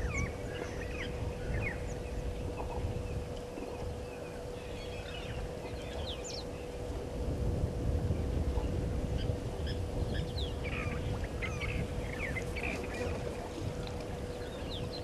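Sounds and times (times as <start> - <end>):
faint steady hum: 0.0 - 15.0
low rumble: 0.0 - 15.0.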